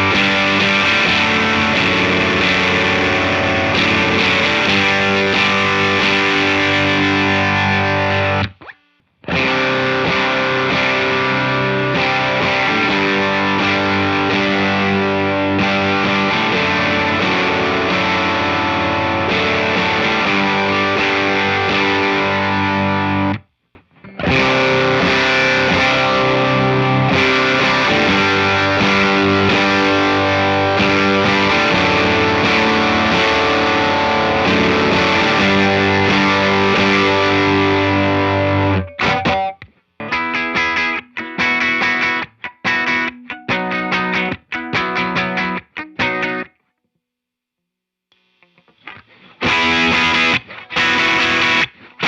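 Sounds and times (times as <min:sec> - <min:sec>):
overdriven electric guitar riffs: 0:00.0 - 0:46.6, 0:48.2 - 0:52.0.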